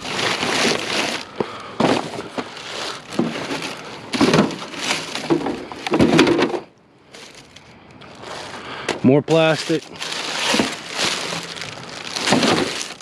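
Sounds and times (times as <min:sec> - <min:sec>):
hands rummaging through plastic junk: 0:00.0 - 0:13.0.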